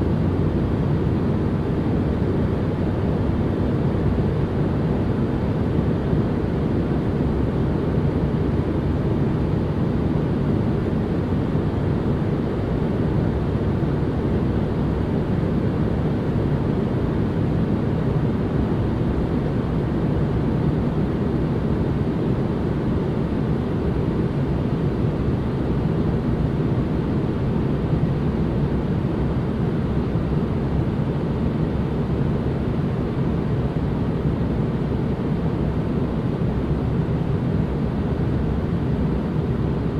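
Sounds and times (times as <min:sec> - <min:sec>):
low white noise rumble: 0:00.0 - 0:39.9.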